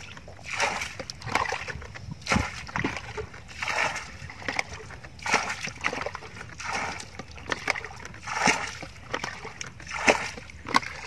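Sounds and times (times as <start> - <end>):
bucket scooping and splashing water: 0.0 - 11.0.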